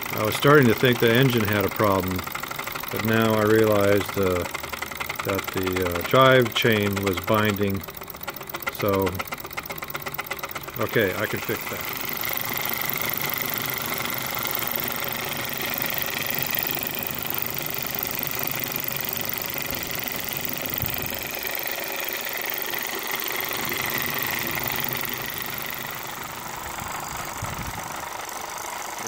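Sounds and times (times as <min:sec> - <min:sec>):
model steam engine clattering: 0:00.0 - 0:29.0.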